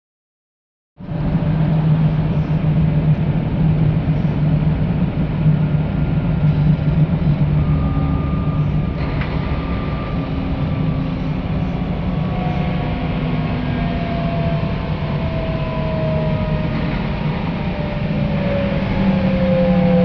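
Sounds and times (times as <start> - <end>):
diesel engine humming: 1.0 - 20.0.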